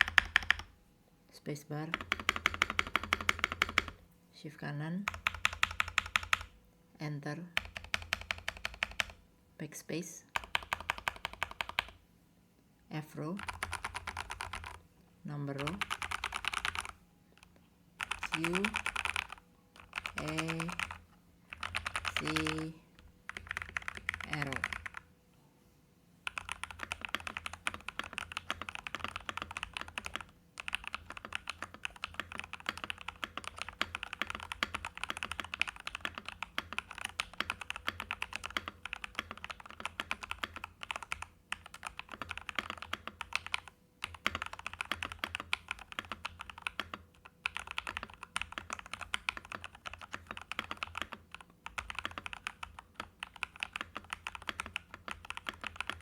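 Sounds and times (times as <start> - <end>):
fast mechanical keyboard typing: 0.0 - 0.7, 1.9 - 4.0, 5.1 - 6.5, 7.6 - 9.2, 10.4 - 12.0, 13.4 - 14.8, 15.5 - 17.0, 18.0 - 25.0, 26.2 - 56.0.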